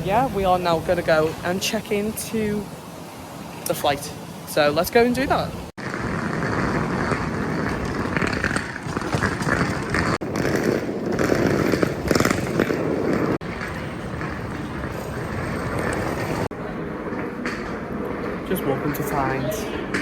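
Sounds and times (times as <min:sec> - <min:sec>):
background noise: 0:00.0 - 0:20.0.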